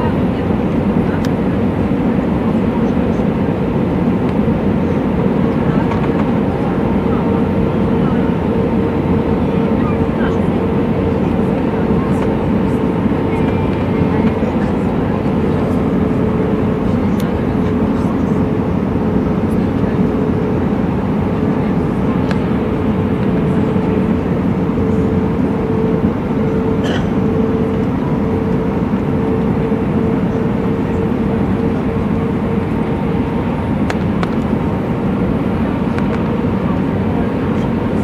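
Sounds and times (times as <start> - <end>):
airliner engines roaring: 0.0 - 38.0.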